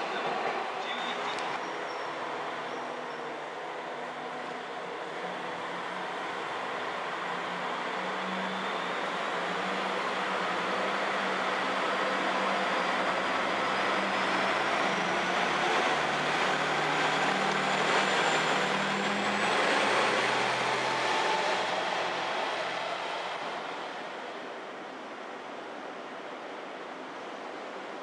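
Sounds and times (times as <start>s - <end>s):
diesel railcar engine humming: 0.0s - 28.0s.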